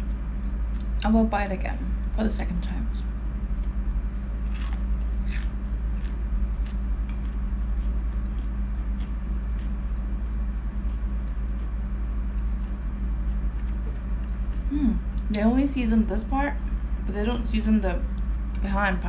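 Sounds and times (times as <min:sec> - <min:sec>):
constant hum: 0:00.0 - 0:19.0
low rumble: 0:00.0 - 0:19.0.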